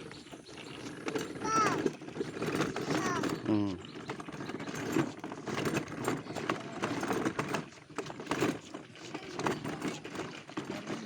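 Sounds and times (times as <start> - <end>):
toy car rattling as it rolls: 0.1 - 11.0.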